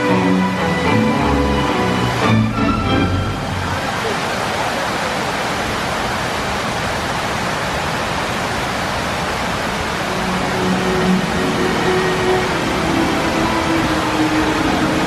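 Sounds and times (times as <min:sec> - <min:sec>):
fountain water jets splashing: 0:00.0 - 0:15.0.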